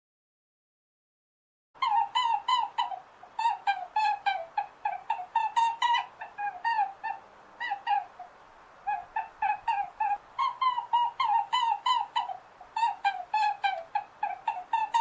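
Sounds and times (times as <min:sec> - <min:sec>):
animal squeaky calls: 0:01.8 - 0:08.2, 0:08.9 - 0:15.0.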